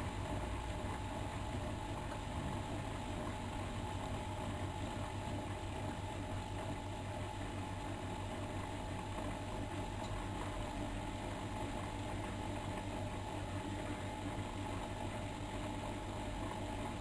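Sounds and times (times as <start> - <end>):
faint steady whine: 0.0 - 17.0
washing machine humming: 0.0 - 17.0.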